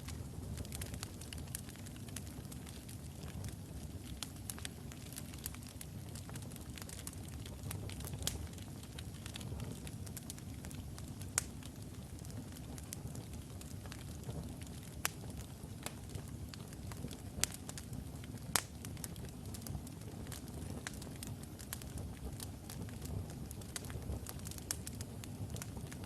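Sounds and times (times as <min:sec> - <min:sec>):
fire roaring in fireplace: 0:00.0 - 0:26.0
wood crackles and pops: 0:00.0 - 0:26.0.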